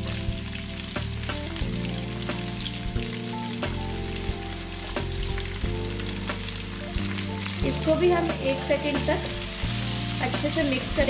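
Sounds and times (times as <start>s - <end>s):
background music: 0.0s - 11.0s
onions sizzling in hot oil: 0.0s - 11.0s.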